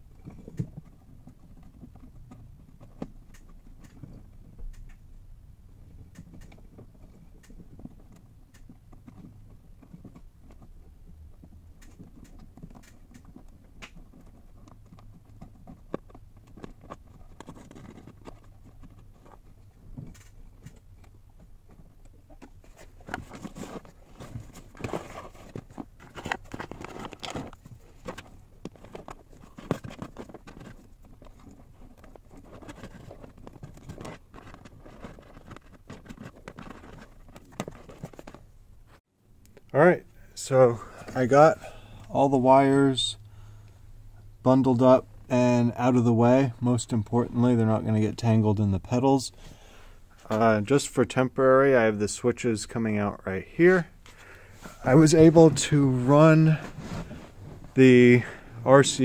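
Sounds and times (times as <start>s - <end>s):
rustling of wires and plastic: 5.9s - 39.0s, 44.4s - 59.0s.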